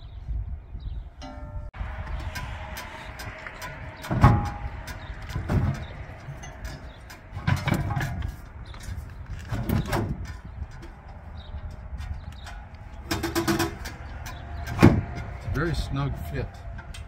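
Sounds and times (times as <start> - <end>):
gas cylinders clunking and scraping: 1.2 - 17.0.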